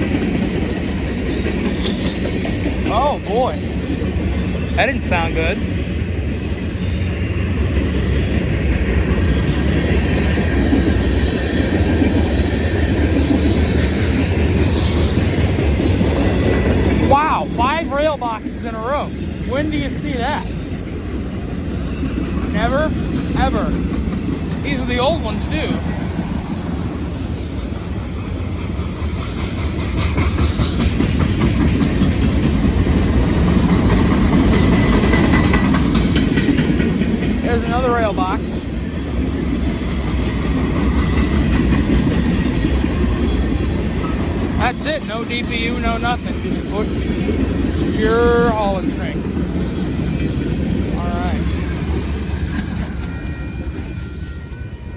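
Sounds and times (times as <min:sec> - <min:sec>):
clickety-clack over rail joints: 0:00.0 - 0:54.9
freight train wheels rumbling: 0:00.0 - 0:54.9.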